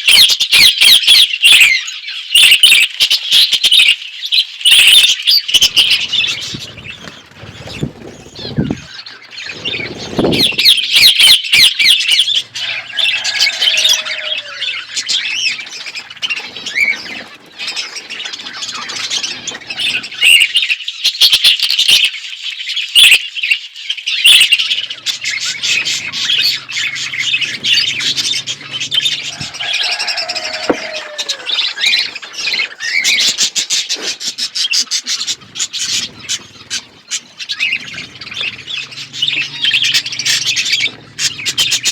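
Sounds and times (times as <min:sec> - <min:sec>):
budgerigars chattering and chirping: 0:00.0 - 0:41.9
bird squawks: 0:04.7 - 0:20.8, 0:24.1 - 0:41.9.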